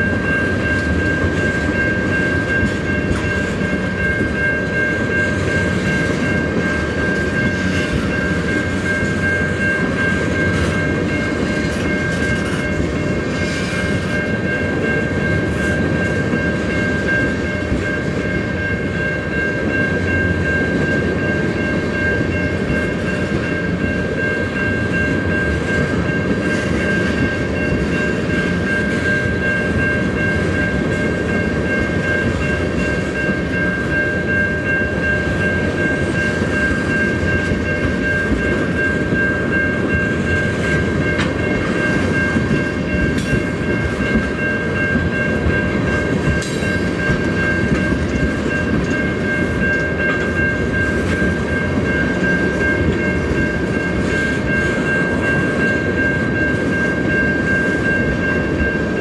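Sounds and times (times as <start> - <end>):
high ringing tone: 0.0 - 59.0
train wheels rumbling on rail: 0.0 - 59.0.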